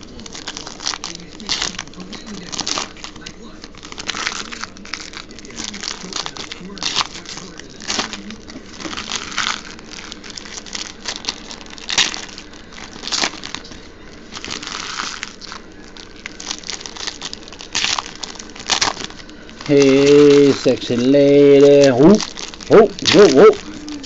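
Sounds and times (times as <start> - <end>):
foil wrappers crinkling: 0.0 - 24.0
wrappers ripping: 0.0 - 24.0.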